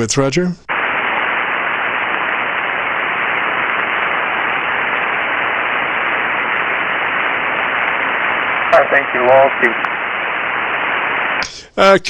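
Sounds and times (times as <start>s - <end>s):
radio static hiss: 0.7s - 12.0s.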